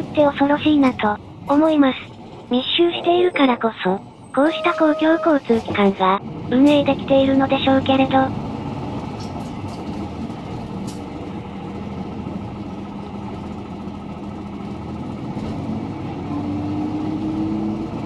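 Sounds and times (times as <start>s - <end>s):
bus engine running: 0.0s - 18.0s
road noise: 0.0s - 18.0s.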